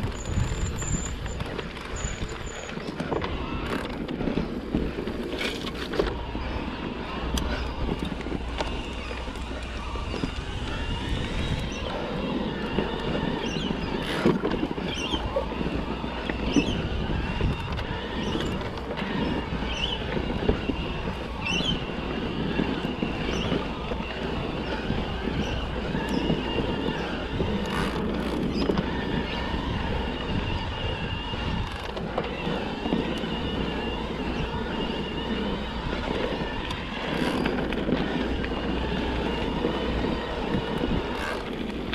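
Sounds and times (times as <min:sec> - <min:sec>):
bike rattling: 0:00.0 - 0:41.9
tyres rumbling over dirt: 0:00.0 - 0:41.9
wind on microphone: 0:00.0 - 0:41.9.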